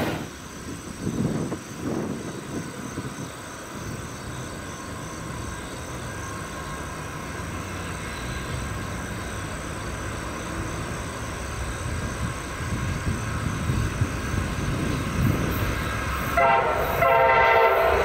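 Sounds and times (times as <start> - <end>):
distant locomotive engine rumble: 0.0 - 18.0.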